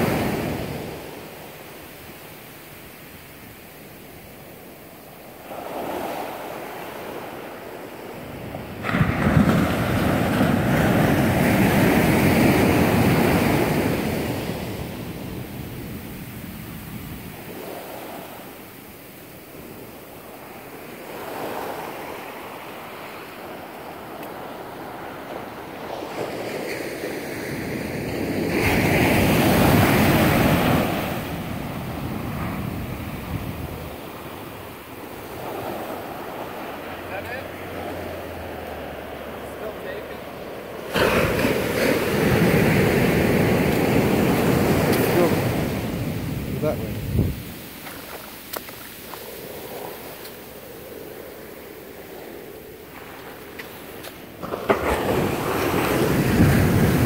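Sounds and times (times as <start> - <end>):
surf washing up beach: 0.0 - 57.0.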